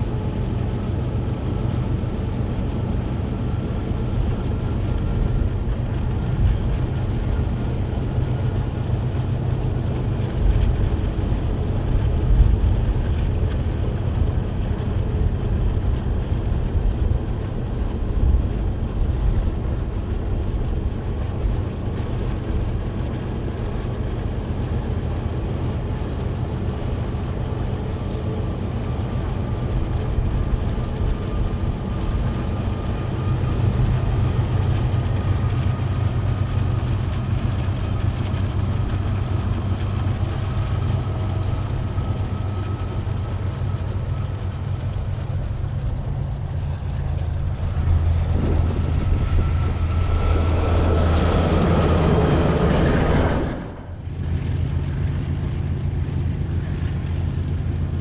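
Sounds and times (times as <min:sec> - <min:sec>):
diesel locomotive rumble: 0:00.0 - 0:58.0
faint steady whine: 0:00.0 - 0:58.0.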